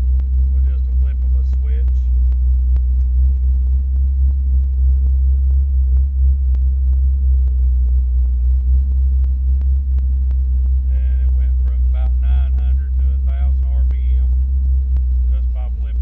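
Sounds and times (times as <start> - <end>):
faint regular ticks: 0.0 - 16.0
truck engine idling: 0.0 - 16.0.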